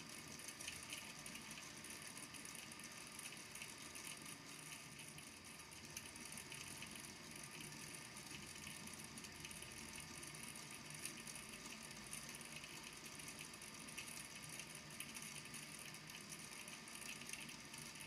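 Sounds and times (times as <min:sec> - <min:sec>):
small balls tapping in tank: 0:00.0 - 0:18.0.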